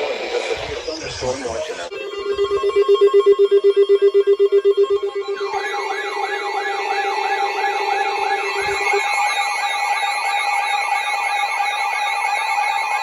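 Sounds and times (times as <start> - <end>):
rapidly pulsing alarm tone: 1.9 - 13.0
warbling siren tone: 1.9 - 13.0.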